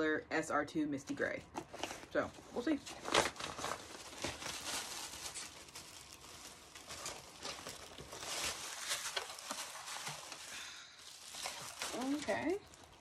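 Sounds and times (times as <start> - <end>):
plastic packaging crinkling: 1.6 - 13.0.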